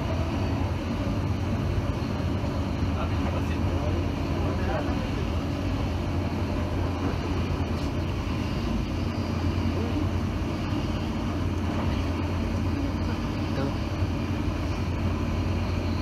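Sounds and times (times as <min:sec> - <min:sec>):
train interior hum: 0:00.0 - 0:16.0
wheels rumbling on track: 0:00.0 - 0:16.0.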